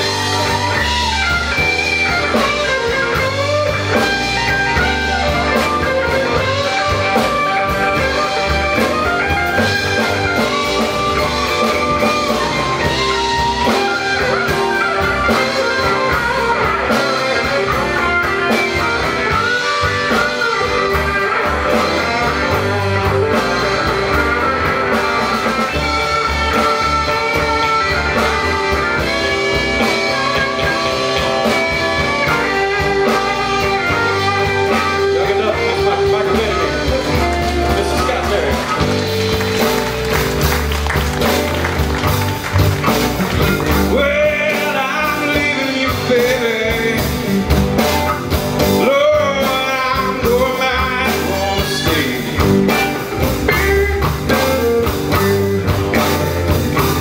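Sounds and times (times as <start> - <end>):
blues band playing: 0.0 - 57.0
electric guitar bent notes: 0.0 - 57.0.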